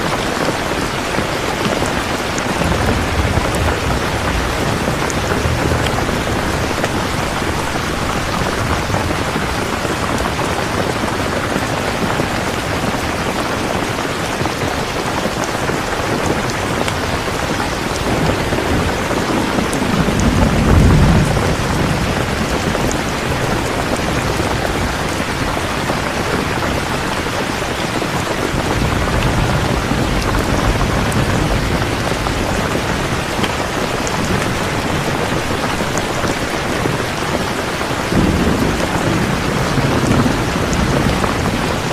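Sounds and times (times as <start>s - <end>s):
rain falling: 0.0s - 41.9s
thunder rolling: 0.2s - 41.9s.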